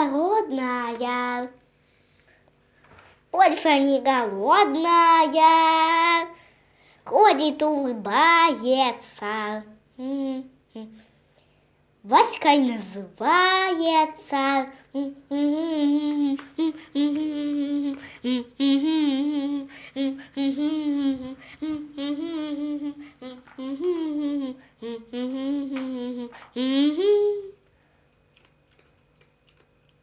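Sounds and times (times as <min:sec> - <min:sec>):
child singing and humming: 0:00.0 - 0:01.6, 0:03.4 - 0:06.4, 0:07.1 - 0:11.1, 0:12.0 - 0:27.6.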